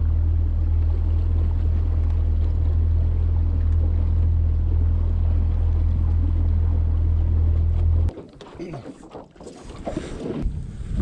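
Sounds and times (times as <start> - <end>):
outboard motor droning: 0.0 - 10.9.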